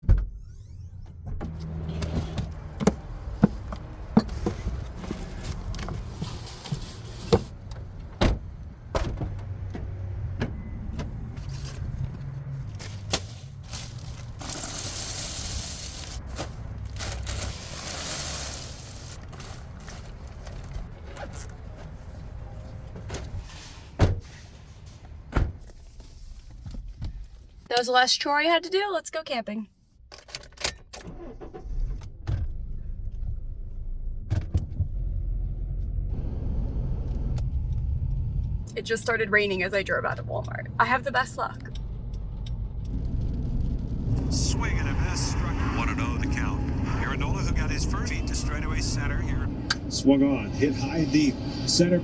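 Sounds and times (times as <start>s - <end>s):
car engine rumbling: 0.0s - 28.9s, 30.1s - 52.0s.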